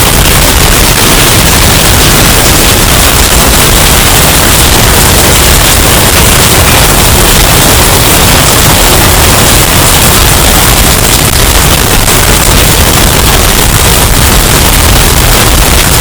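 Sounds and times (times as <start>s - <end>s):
distorted hurricane wind: 0.0s - 16.0s.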